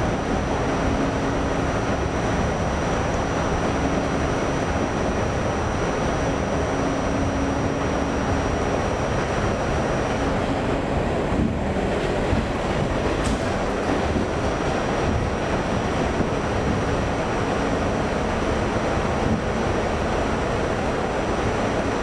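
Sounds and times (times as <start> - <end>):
wheels rumbling on rail: 0.0 - 22.0.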